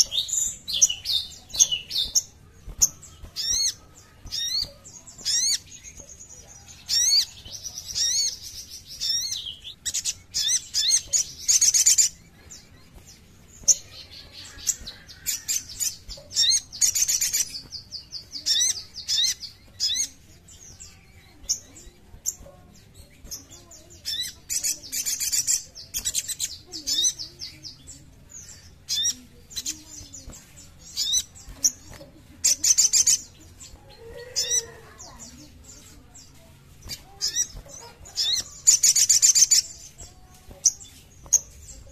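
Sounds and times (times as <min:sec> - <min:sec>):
bird chirps and trills: 0:00.0 - 0:41.9.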